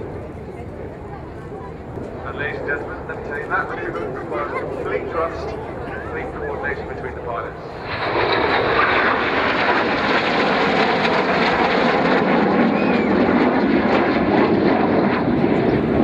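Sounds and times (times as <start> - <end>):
jets flying past low: 1.7 - 16.0.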